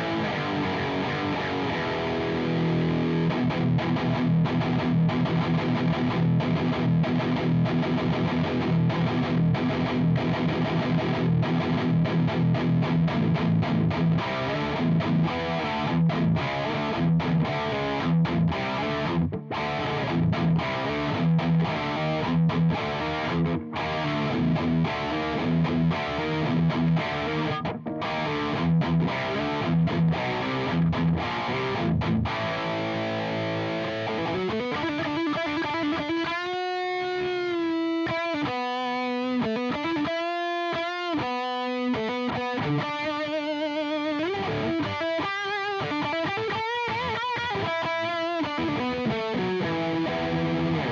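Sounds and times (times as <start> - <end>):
distorted electric guitar riff: 0.0 - 50.9.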